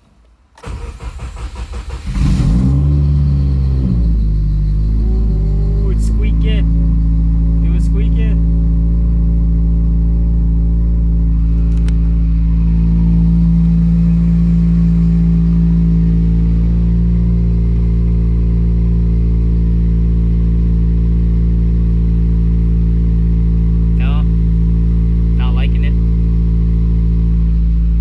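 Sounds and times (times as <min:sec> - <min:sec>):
car engine idling: 0:00.6 - 0:28.0.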